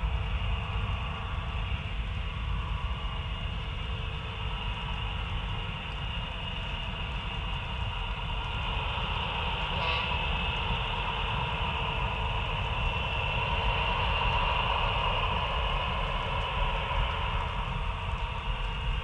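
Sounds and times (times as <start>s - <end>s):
model locomotive engine rumble: 0.0s - 19.0s.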